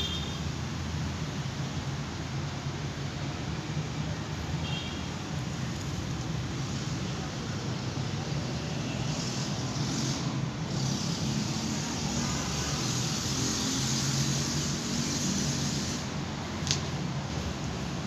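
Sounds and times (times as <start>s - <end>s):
road traffic rumble and hiss: 0.0s - 18.0s.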